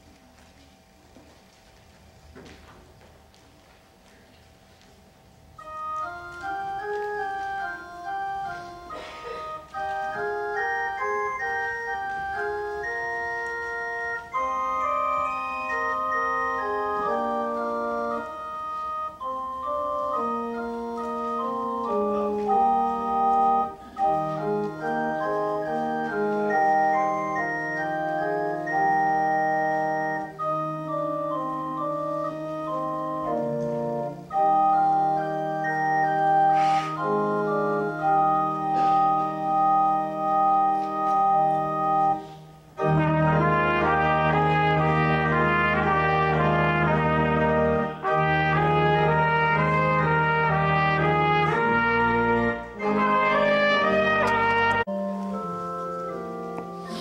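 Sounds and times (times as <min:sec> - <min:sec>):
organ playing sustained chords: 0:05.4 - 0:57.0
organ bass line: 0:05.6 - 0:08.9, 0:09.6 - 0:42.2, 0:42.8 - 0:56.8.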